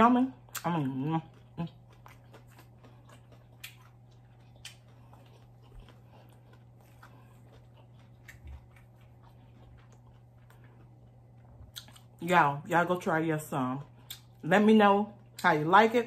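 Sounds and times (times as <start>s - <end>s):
chewing crispy food: 0.0s - 16.0s
steady low hum: 0.0s - 16.0s.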